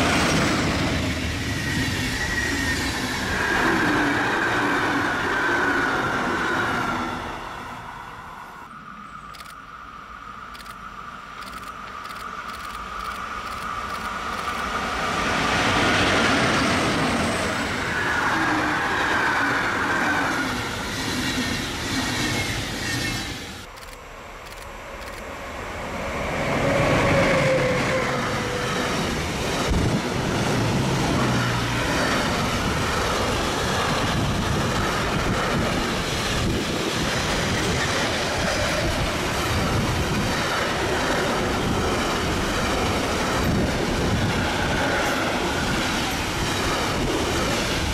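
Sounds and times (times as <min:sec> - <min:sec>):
electric locomotive whine: 0:00.0 - 0:47.9
electric train passing: 0:00.0 - 0:47.9.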